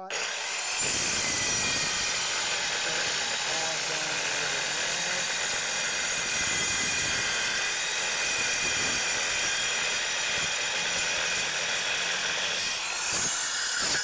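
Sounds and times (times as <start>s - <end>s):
circular saw cutting steel: 0.0s - 14.0s.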